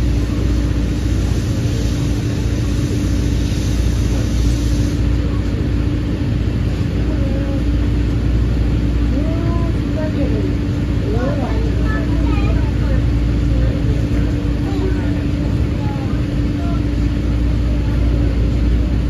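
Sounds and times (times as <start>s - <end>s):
train coach rumble and hum: 0.0s - 19.0s.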